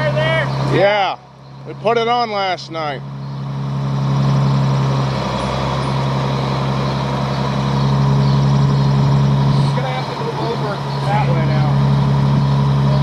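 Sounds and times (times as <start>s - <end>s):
large vehicle engine humming: 0.0s - 13.0s.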